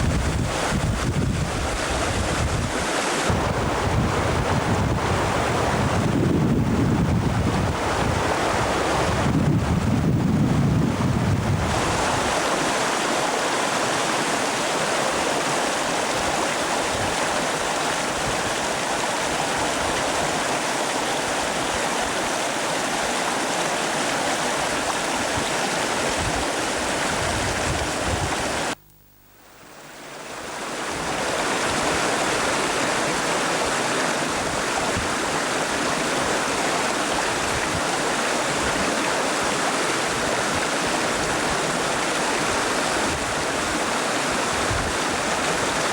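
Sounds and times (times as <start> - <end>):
river water rushing: 0.0 - 28.8, 29.8 - 45.9.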